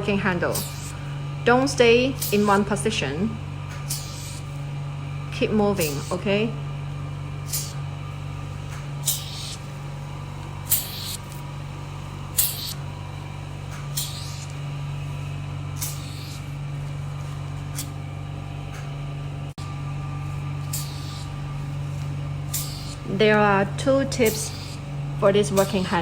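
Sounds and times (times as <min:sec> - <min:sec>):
suction pump humming: 0:00.0 - 0:26.0.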